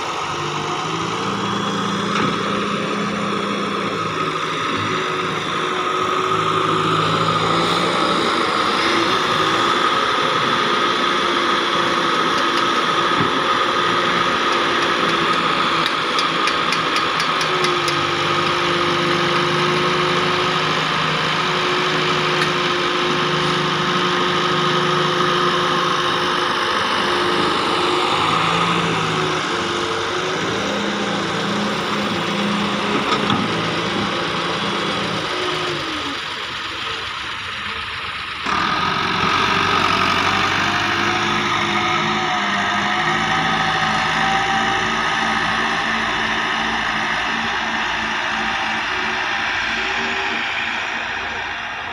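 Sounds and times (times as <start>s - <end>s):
excavator diesel engine running: 0.0s - 51.9s
steady hydraulic whine: 0.0s - 51.9s.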